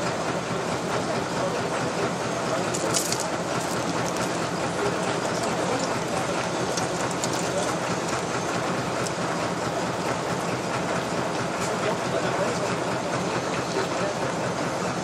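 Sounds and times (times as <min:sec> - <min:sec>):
locomotive rumbling: 0:00.0 - 0:15.0.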